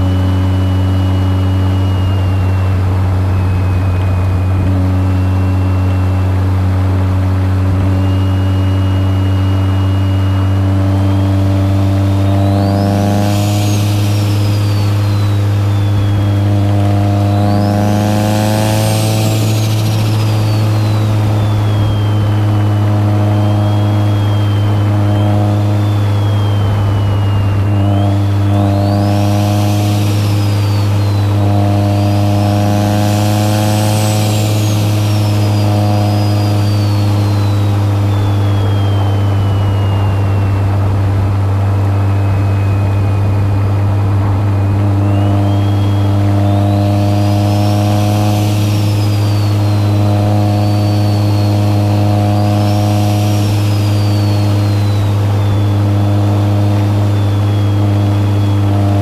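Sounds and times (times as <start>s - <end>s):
car engine droning: 0.0s - 59.0s
high turbo whistle: 0.0s - 59.0s.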